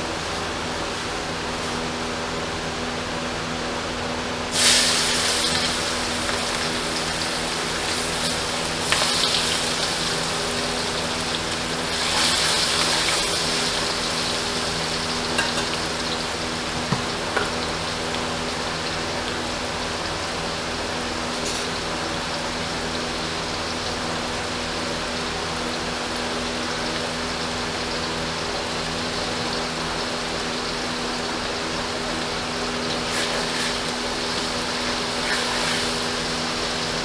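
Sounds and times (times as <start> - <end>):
onions sizzling in hot oil: 4.5 - 37.0.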